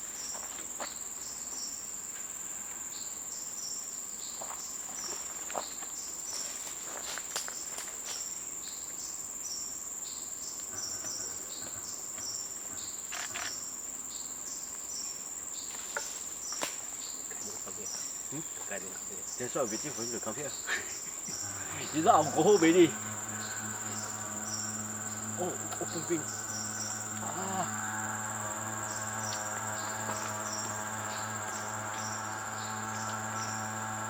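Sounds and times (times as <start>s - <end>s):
insect chirp: 0.0s - 34.0s
insects droning: 0.0s - 34.0s.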